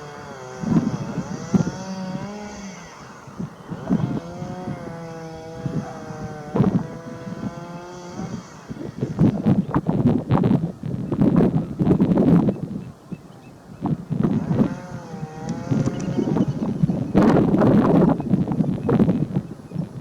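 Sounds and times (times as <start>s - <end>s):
distant engine droning: 0.0s - 20.0s
wind buffeting microphone: 0.0s - 20.0s.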